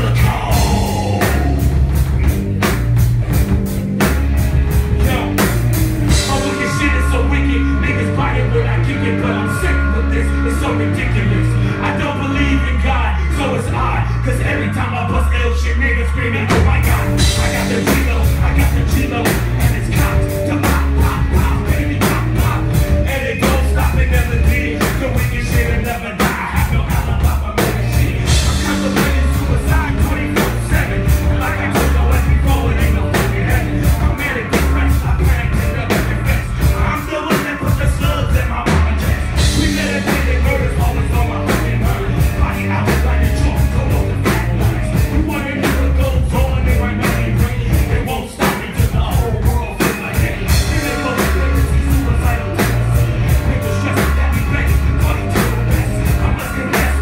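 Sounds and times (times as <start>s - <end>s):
person rapping into microphone: 0.0s - 2.3s, 4.9s - 57.0s
drum kit beat: 0.0s - 15.3s, 16.0s - 57.0s
heavy bass: 0.0s - 57.0s.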